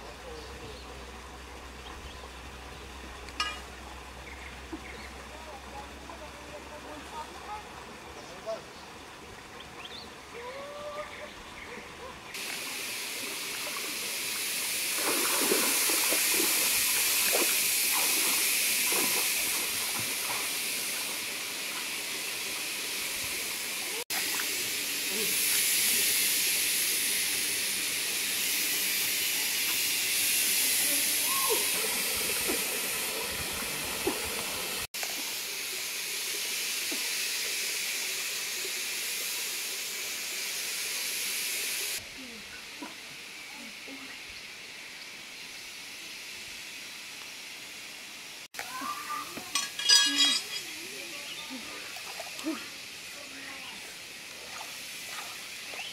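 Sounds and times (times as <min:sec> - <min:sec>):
stream hiss: 0:00.0 - 0:55.9.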